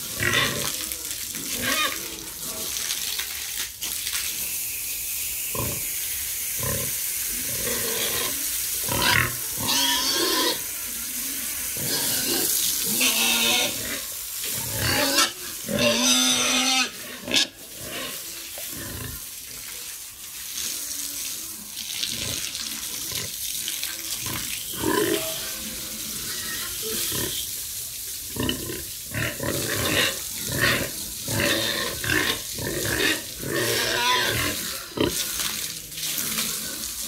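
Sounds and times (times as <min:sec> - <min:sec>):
water spraying from a hose: 0:00.0 - 0:37.0.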